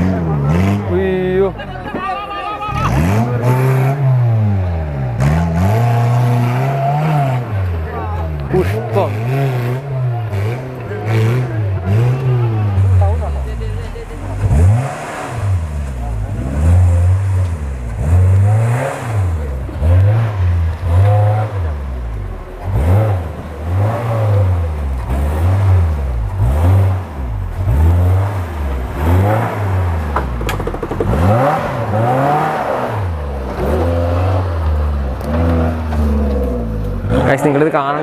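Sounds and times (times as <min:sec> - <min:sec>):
engine revving hard: 0:00.0 - 0:01.5, 0:02.7 - 0:38.0.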